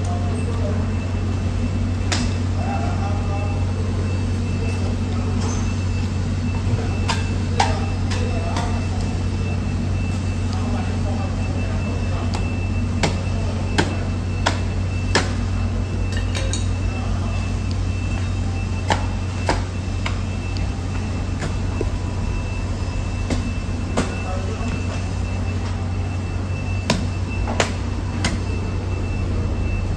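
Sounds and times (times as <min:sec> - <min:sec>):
low machinery hum: 0:00.0 - 0:29.9.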